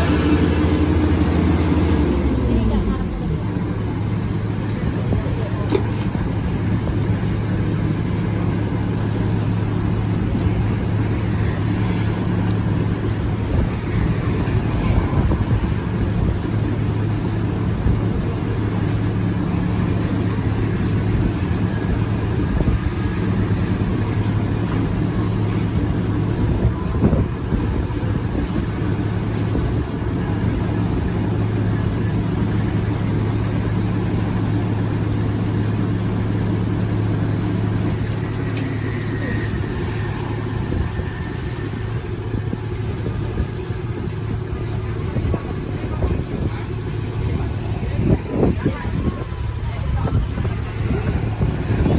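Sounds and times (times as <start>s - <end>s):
combine harvester engine hum: 0.0s - 51.9s.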